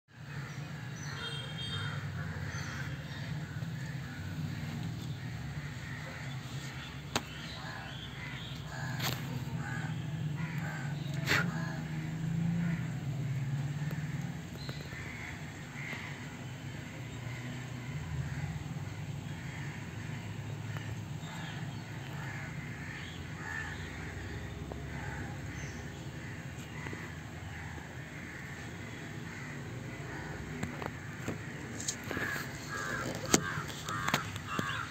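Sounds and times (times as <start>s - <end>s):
birds calling: 0.1s - 34.9s.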